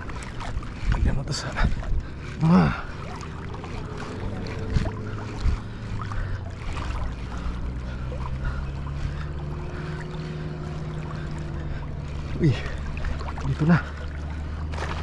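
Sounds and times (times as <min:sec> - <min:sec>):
low steady hum: 0:00.0 - 0:15.0
sea water sloshing: 0:00.0 - 0:15.0
wind buffeting microphone: 0:00.0 - 0:15.0.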